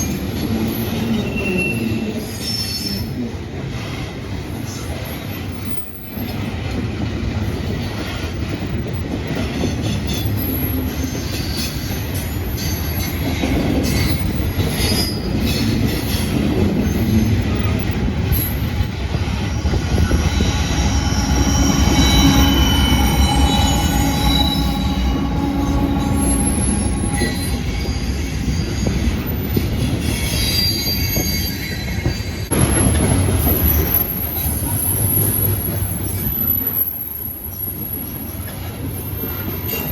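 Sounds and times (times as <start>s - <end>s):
train wheels squealing: 0.0s - 3.2s, 4.6s - 6.7s, 7.6s - 39.9s
train cars rumbling: 0.0s - 39.9s.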